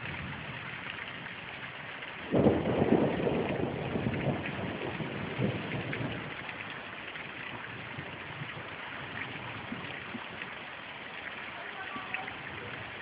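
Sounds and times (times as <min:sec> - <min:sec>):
low rumble of thunder: 0:00.0 - 0:10.6
heavy rain falling: 0:00.0 - 0:13.0.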